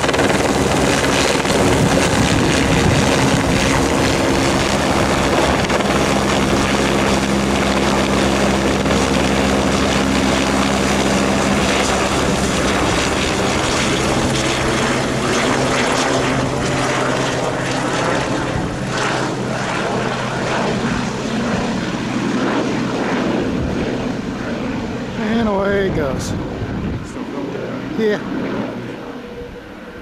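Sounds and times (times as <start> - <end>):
helicopter flying overhead: 0.0 - 30.0.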